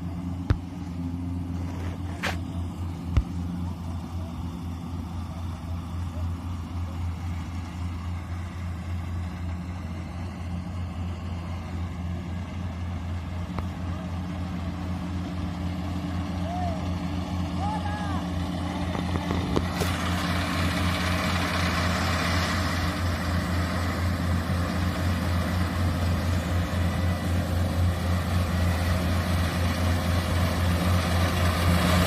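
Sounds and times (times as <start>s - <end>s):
combine harvester engine droning: 0.0s - 32.0s.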